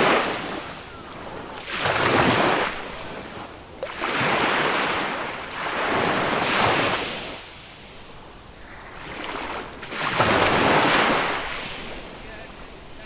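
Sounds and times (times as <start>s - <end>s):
small waves washing up beach: 0.0s - 13.0s.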